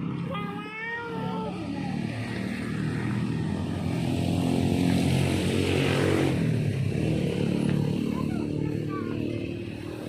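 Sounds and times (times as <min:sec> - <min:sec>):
vehicle engine passing by: 0:00.0 - 0:10.0.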